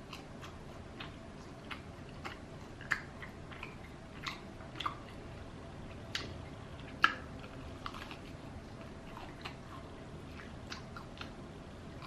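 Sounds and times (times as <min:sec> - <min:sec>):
person chewing crispy chicken: 0:00.0 - 0:12.0.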